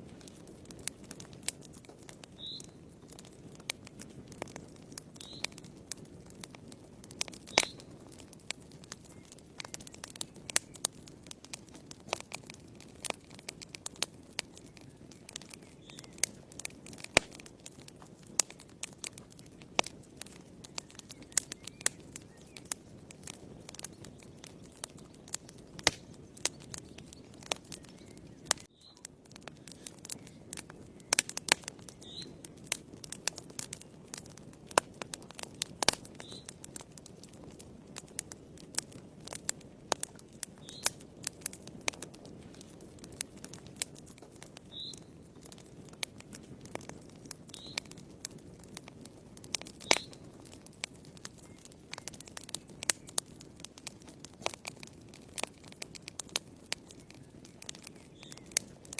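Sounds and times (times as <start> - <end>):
fireplace fire crackling: 0.0 - 58.9
low rush of flames: 0.0 - 58.9.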